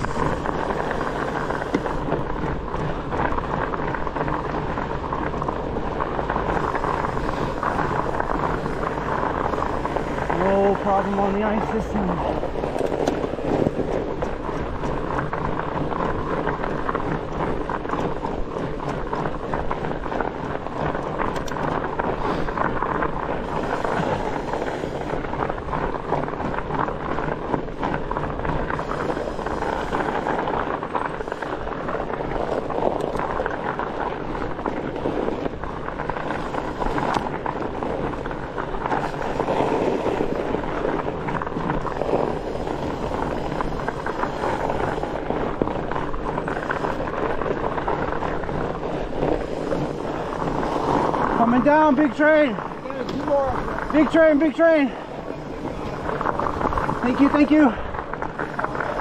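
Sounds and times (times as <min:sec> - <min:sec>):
studded tyres rolling on ice: 0:00.0 - 0:59.0
wind on microphone: 0:00.0 - 0:59.0.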